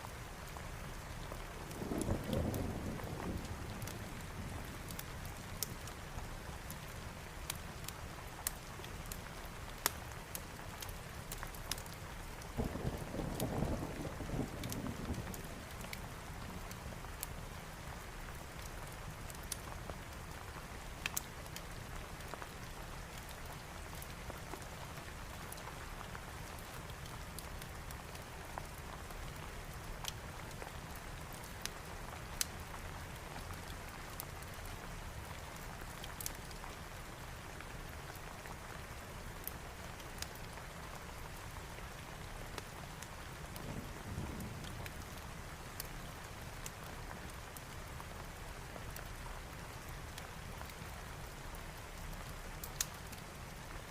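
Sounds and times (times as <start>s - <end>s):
rain falling: 0.0s - 53.9s
wood fire crackling and popping: 3.4s - 6.0s, 6.6s - 13.5s, 14.6s - 20.4s, 21.0s - 34.6s, 35.2s - 53.9s.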